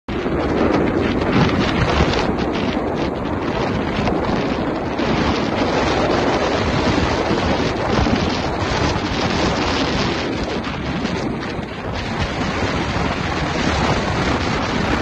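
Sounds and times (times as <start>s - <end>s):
water rushing past hull: 0.1s - 15.0s
wind buffeting microphone: 0.1s - 15.0s.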